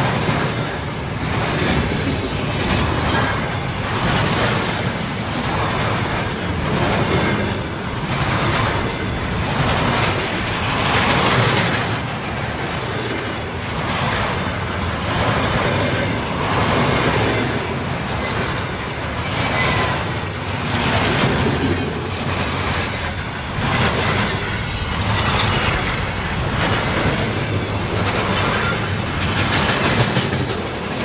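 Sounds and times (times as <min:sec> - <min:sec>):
train passing rumble: 0:00.0 - 0:31.0.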